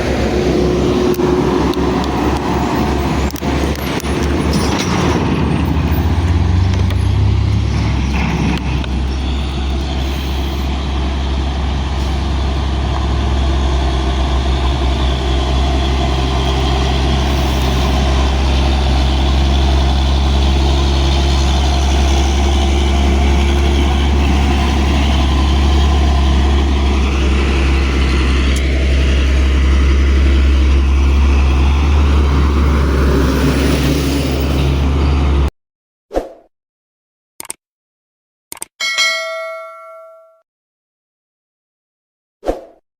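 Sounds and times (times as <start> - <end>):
road noise: 0.0 - 35.5
truck engine droning: 0.0 - 35.5.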